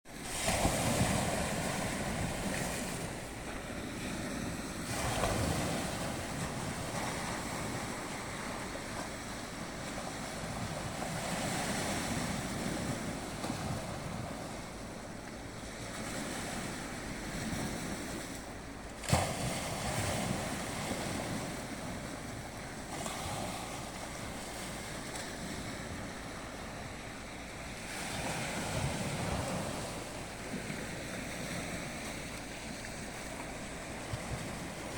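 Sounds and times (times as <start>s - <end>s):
sea waves breaking: 0.1s - 34.9s.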